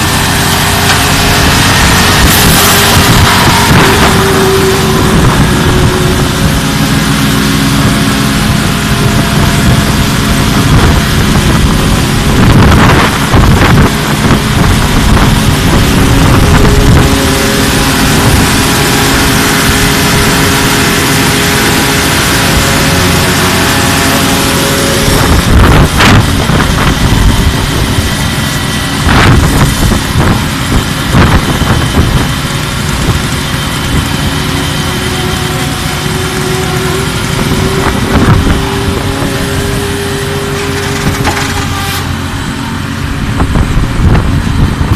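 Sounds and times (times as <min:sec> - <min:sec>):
concrete pump truck running: 0:00.0 - 0:44.9
concrete vibrator petrol engine: 0:00.0 - 0:44.9.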